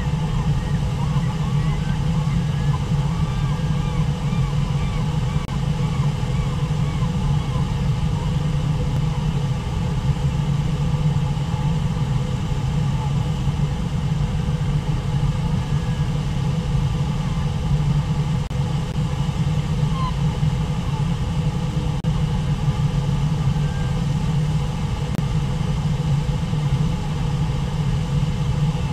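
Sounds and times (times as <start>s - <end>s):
waterfall rumble: 0.0s - 28.9s.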